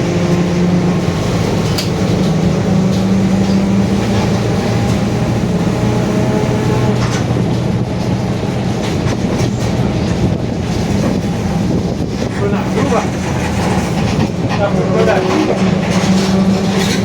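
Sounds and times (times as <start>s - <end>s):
bus diesel engine running: 0.0s - 17.0s
growling differential: 0.0s - 17.0s.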